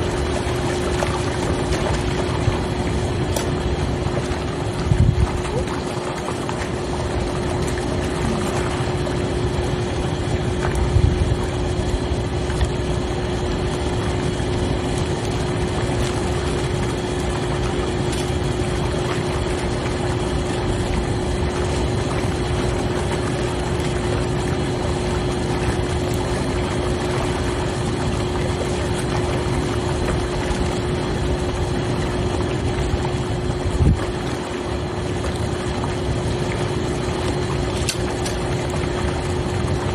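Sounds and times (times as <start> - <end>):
pump humming: 0.0 - 39.9
water churning from jets: 0.0 - 39.9.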